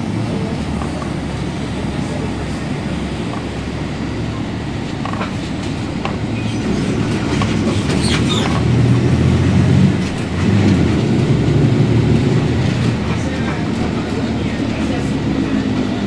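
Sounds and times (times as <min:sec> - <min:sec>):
bus diesel engine running: 0:00.0 - 0:16.0
differential roaring: 0:00.0 - 0:16.0.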